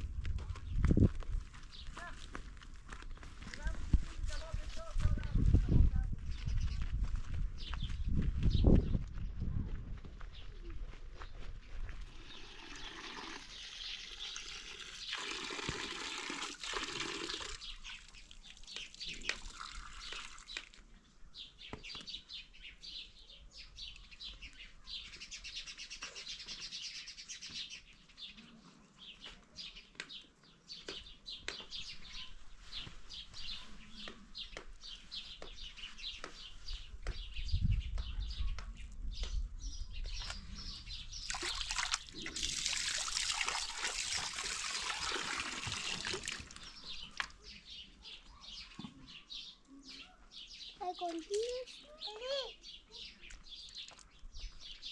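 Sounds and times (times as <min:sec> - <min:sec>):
small birds chirping: 0:00.3 - 0:16.4, 0:17.0 - 0:54.9.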